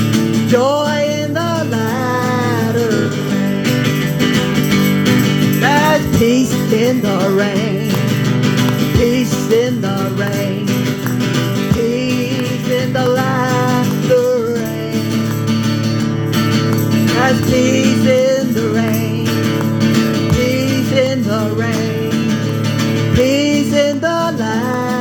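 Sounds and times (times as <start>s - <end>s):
country gospel guitar music: 0.0s - 25.0s.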